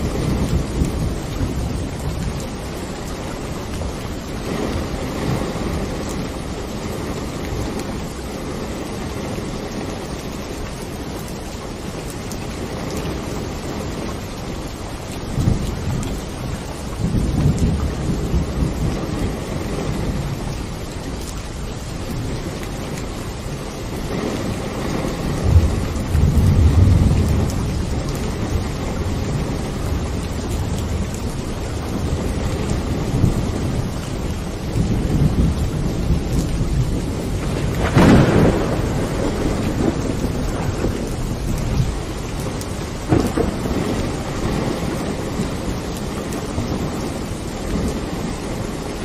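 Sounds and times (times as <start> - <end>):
thunder rumbling and clapping: 0.0 - 8.0, 15.3 - 21.4, 23.9 - 49.0
steady rain: 0.0 - 49.0.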